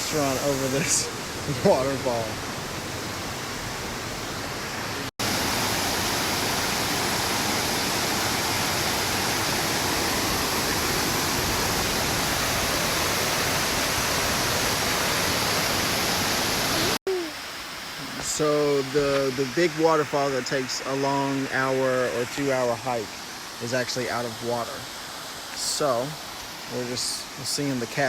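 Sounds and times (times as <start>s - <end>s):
waterfall roaring over rock: 0.0s - 28.0s.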